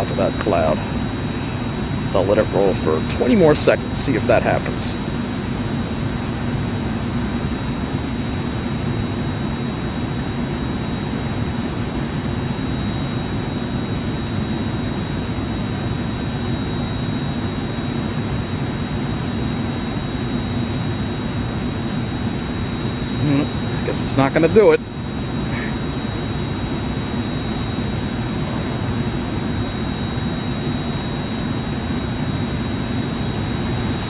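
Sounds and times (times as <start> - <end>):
thin high whine: 0.0 - 5.6, 10.7 - 34.0
distant jet airplane rumble: 0.0 - 6.4, 12.2 - 34.0.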